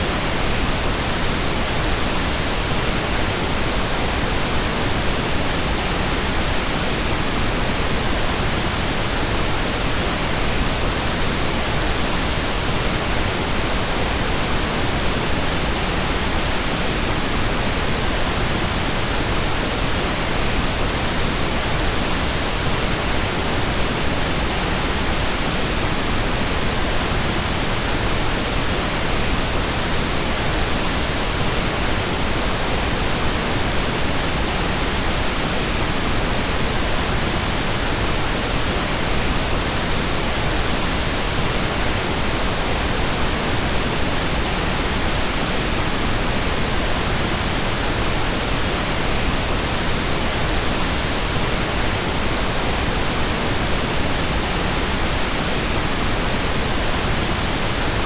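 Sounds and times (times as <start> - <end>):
steady pink noise hiss: 0.0 - 58.0.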